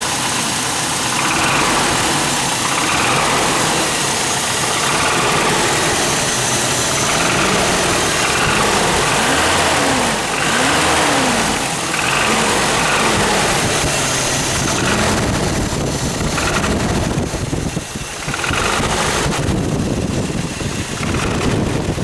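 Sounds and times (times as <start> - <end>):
engine running with knocking rattle: 0.0 - 22.0.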